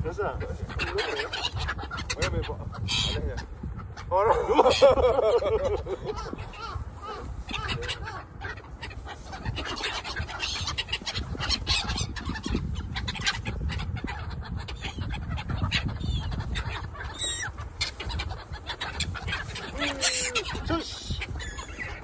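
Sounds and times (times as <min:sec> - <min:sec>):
gulls calling: 0:00.0 - 0:22.0
wind rumbling on microphone: 0:00.0 - 0:22.0.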